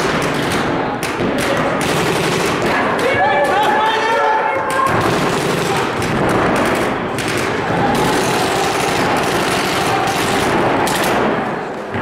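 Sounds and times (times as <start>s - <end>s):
paintball markers firing: 0.0s - 4.0s, 4.6s - 12.0s.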